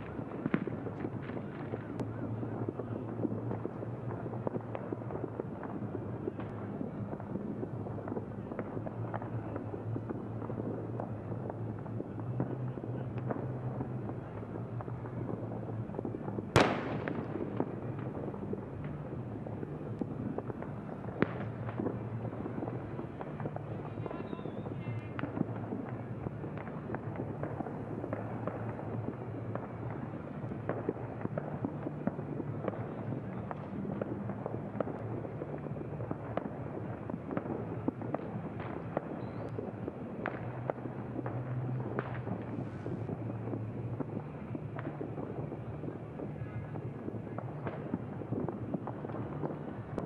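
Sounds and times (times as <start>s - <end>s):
fireworks popping and crackling: 0.0s - 50.0s.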